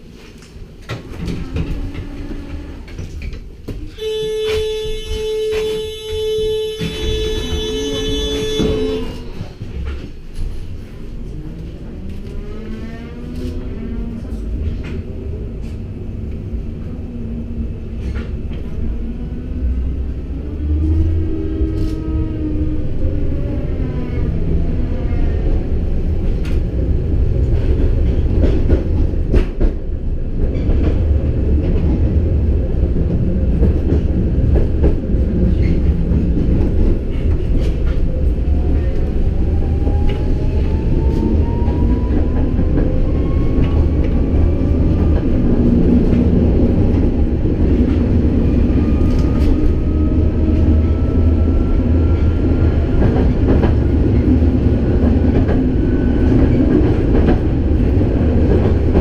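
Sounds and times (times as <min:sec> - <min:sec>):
tram wheels rumbling on rail: 0:00.0 - 0:59.0.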